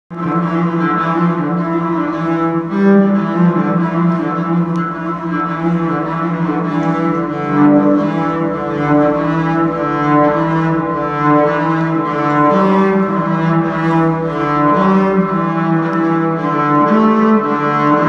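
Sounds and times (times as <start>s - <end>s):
cello bowed notes: 0.1s - 18.0s.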